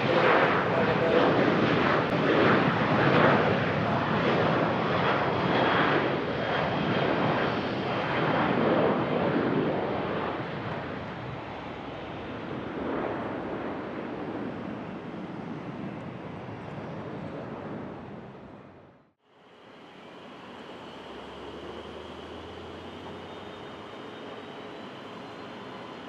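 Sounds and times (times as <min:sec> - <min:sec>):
jet engines passing by: 0:00.0 - 0:26.0.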